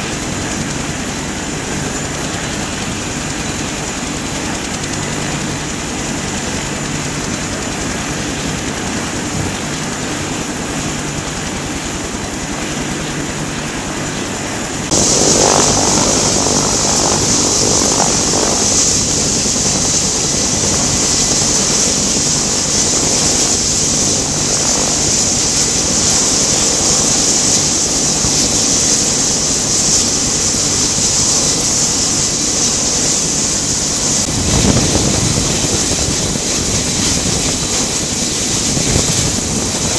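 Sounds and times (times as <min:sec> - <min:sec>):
aircraft turbine high hiss: 0:00.0 - 0:39.9
helicopter running low hum: 0:00.0 - 0:39.9.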